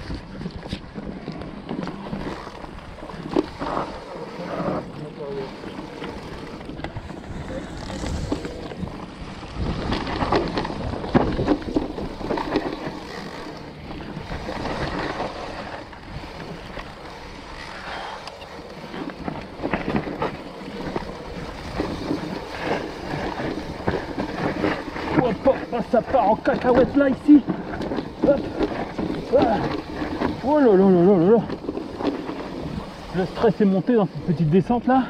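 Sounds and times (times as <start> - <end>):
wind buffeting microphone: 0.0 - 17.8, 18.4 - 33.4
bike knocking and rattling: 0.0 - 35.0
bike tyres on mud and roots: 0.0 - 35.0.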